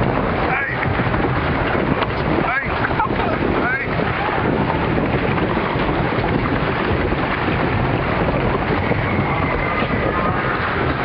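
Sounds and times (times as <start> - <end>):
heavy low rumble: 0.0 - 11.0
wind buffeting microphone: 0.0 - 11.0.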